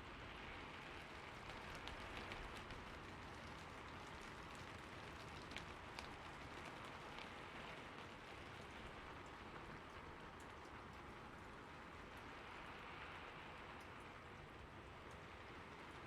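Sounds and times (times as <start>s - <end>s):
rain hissing on a roof: 0.0s - 16.0s.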